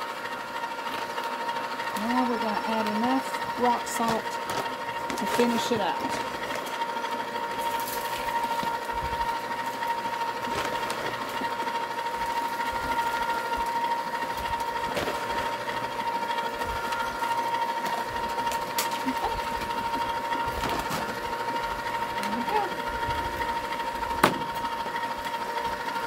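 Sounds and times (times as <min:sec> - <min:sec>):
ice cream maker motor whirring: 0:00.0 - 0:26.0.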